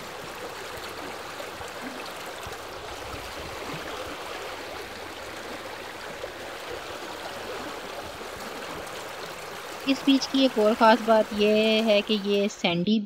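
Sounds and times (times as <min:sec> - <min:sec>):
small waves lapping: 0:00.0 - 0:12.7.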